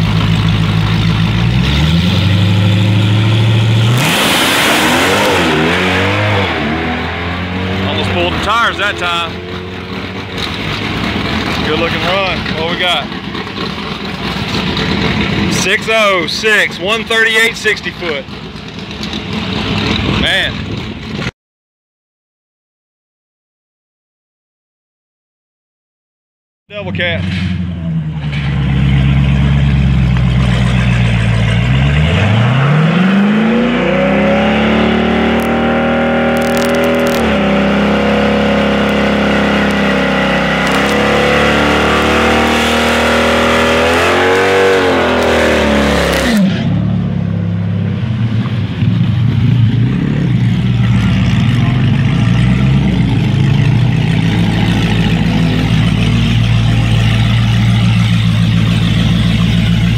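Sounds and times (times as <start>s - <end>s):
car engine revving: 0.0s - 21.3s, 26.9s - 59.9s.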